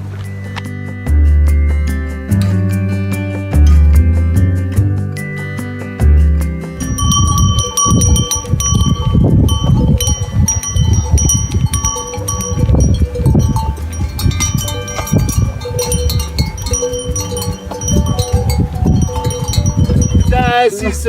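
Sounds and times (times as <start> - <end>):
loud low rumbling: 1.0 - 21.0
metal bells clanking: 2.3 - 4.4, 5.2 - 21.0.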